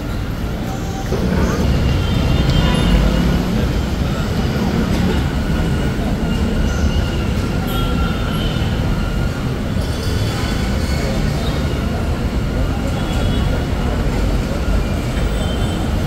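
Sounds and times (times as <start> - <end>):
train wheels rumbling on track: 0.0 - 16.0
high wheel squealing: 0.2 - 16.0.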